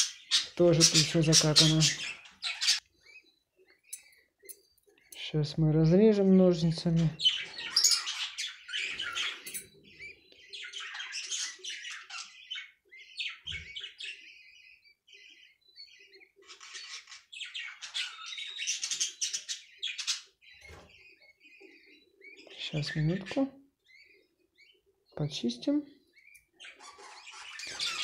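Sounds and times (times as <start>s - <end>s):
budgerigar nestlings squawking: 0.0s - 3.2s, 6.9s - 28.0s.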